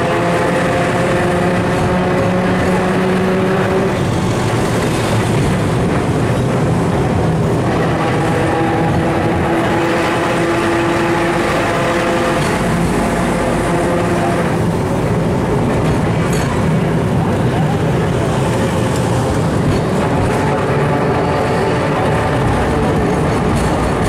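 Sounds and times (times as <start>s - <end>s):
tram motor whine: 0.0s - 24.0s
tram wheels rumbling on rails: 0.0s - 24.0s.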